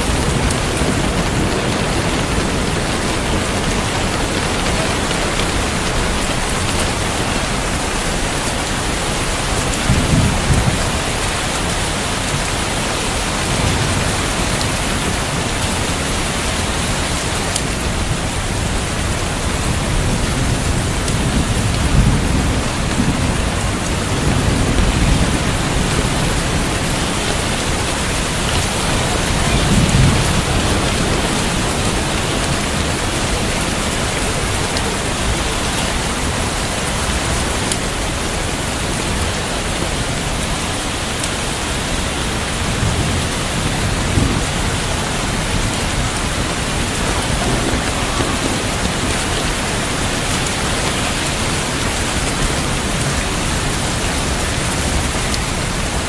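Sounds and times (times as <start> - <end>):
steady rain falling: 0.0 - 56.0
thunder rumbling: 0.0 - 56.0.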